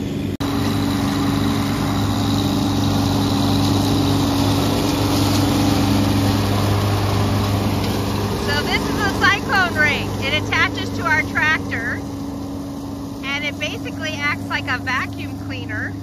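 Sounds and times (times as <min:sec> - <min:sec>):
lawn tractor engine: 0:00.0 - 0:16.0
leaf vacuum engine: 0:00.0 - 0:16.0.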